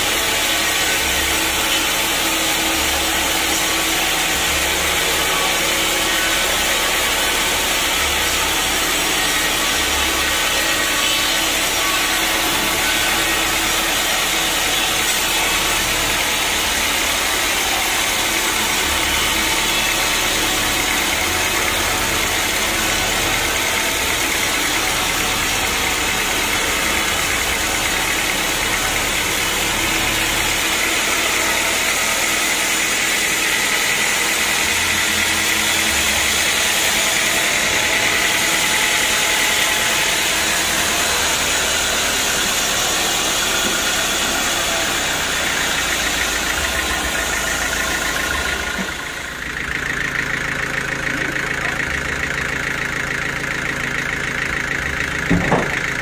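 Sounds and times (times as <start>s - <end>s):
band saw cutting log: 0.0s - 53.0s, 53.7s - 56.0s
machine hum with high whine: 0.0s - 56.0s.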